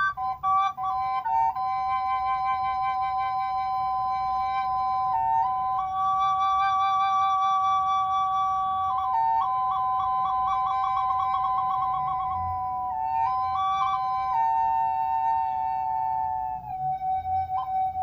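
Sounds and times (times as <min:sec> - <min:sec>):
bamboo double flute: 0:00.0 - 0:18.0.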